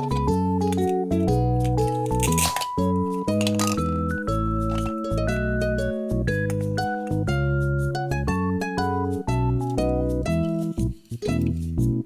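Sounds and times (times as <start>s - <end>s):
held bass line: 0.0s - 12.0s
plucked melody: 0.0s - 12.0s.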